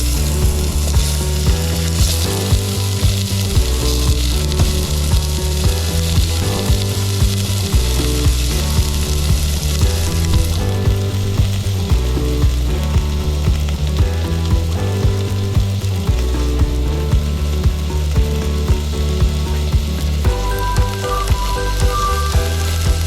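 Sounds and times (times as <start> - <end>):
loud low humming tones: 0.0 - 23.0.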